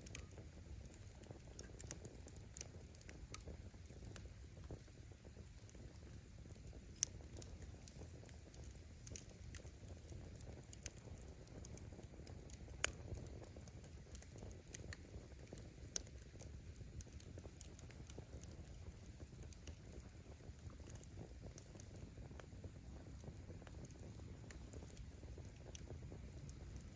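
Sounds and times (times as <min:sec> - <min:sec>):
firewood popping and snapping: 0:00.0 - 0:26.9
low rumble of burning: 0:00.0 - 0:26.9.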